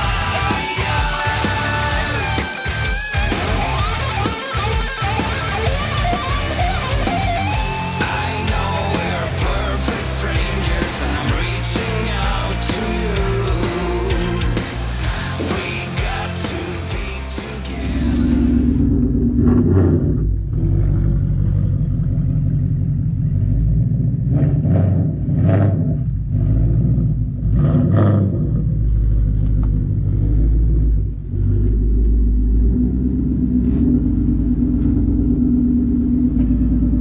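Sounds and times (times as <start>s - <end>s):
car engine idling: 0.0s - 37.0s
engine throttle blips: 0.0s - 37.0s.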